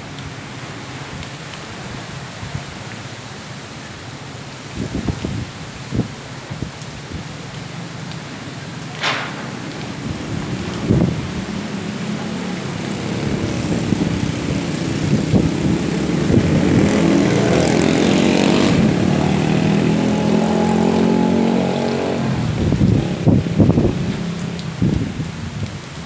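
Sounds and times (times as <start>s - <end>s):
rain: 0.0s - 26.0s
wind: 0.0s - 26.0s
power lines droning in wind: 4.6s - 26.0s.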